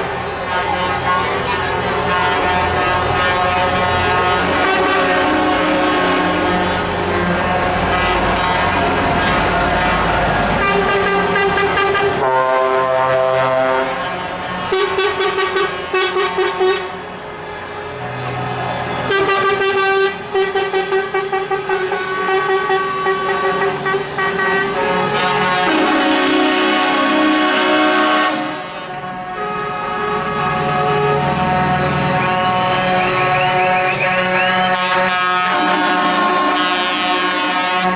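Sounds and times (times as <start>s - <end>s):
passing traffic: 0.0s - 37.9s
truck air horns blasting: 0.4s - 37.9s.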